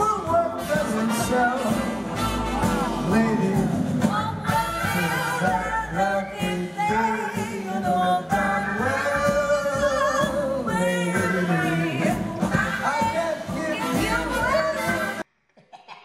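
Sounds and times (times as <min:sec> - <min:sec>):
band playing: 0:00.0 - 0:15.2
man and woman singing duet: 0:00.0 - 0:15.2.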